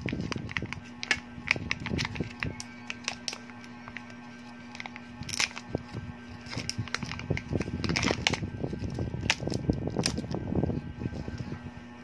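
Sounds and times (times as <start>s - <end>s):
foil crinkling: 0.0s - 11.5s.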